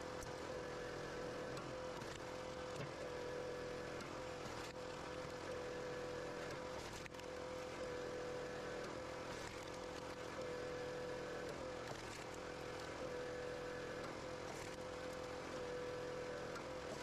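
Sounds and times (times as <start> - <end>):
constant whine: 0.0 - 17.0.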